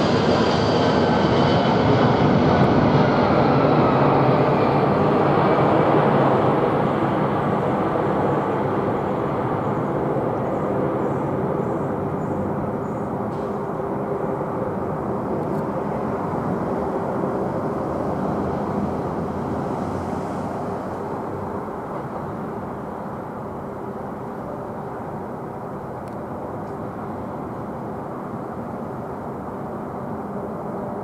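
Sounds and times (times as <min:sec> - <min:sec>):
jet engines of landing plane: 0:00.0 - 0:31.0.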